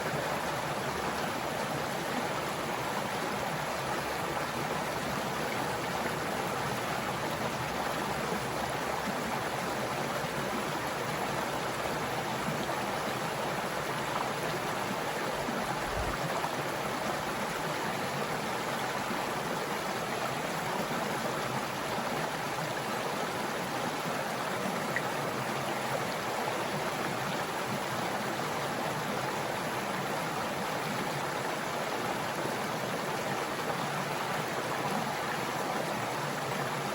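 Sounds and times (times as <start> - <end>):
stream water running: 0.0 - 36.9.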